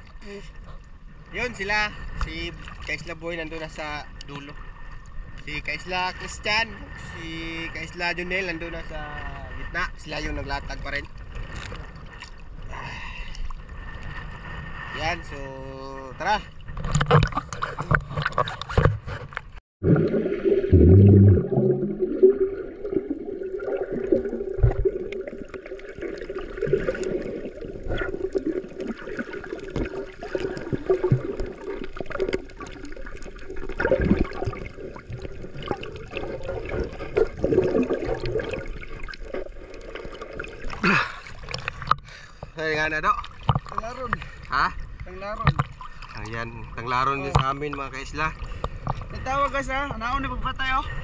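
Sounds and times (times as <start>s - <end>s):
sea water gurgling and sloshing: 0.0s - 51.0s.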